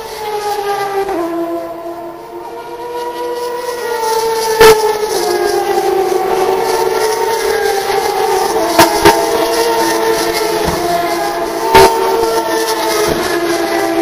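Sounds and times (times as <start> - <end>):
race car engines at high revs: 0.0 - 14.0.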